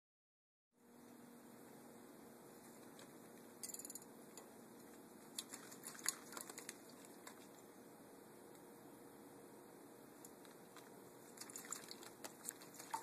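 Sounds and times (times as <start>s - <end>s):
faint room hum: 0.8s - 13.0s.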